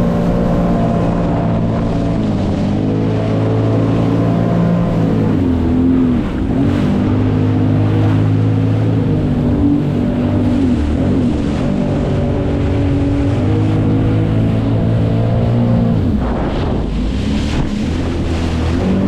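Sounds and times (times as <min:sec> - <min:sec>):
jet ski engine running: 0:00.0 - 0:19.0
water and wind rushing: 0:00.0 - 0:19.0.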